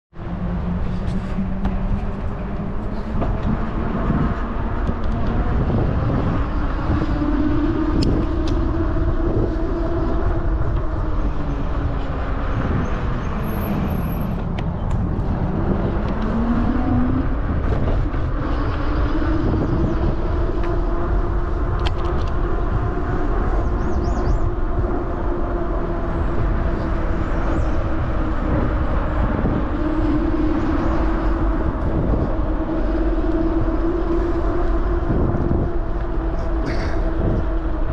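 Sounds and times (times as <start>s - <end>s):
vehicle engine rumbling: 0.2s - 37.9s.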